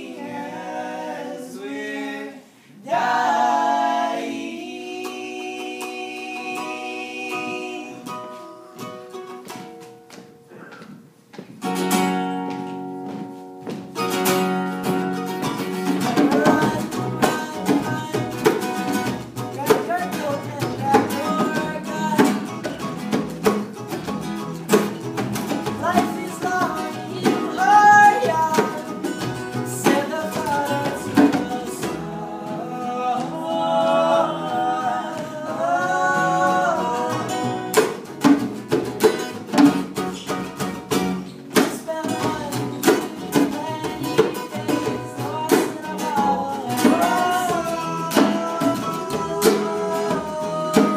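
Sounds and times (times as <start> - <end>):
acoustic guitar picked and strummed: 0.0 - 50.9.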